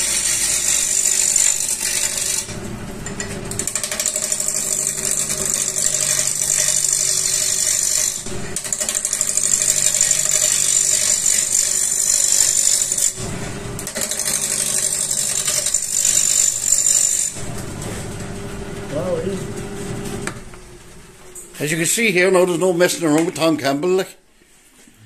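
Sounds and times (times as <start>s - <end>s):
lathe humming: 0.0s - 23.4s
lathe tool shaving wood: 0.0s - 23.5s.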